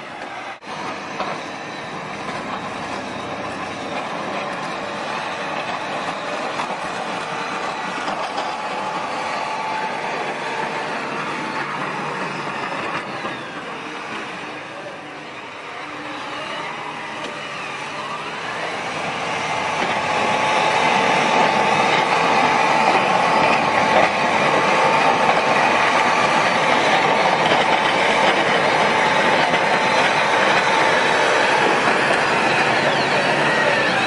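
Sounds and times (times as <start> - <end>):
plow pushing snow: 0.0 - 34.0.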